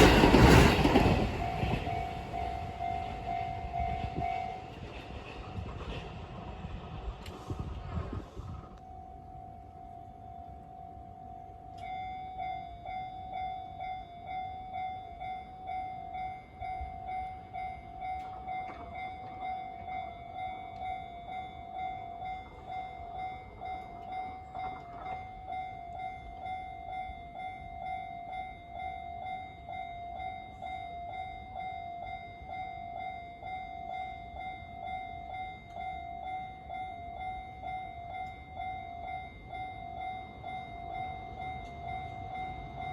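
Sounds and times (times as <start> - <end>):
railroad crossing bell ringing: 0.0 - 5.7, 8.4 - 42.9.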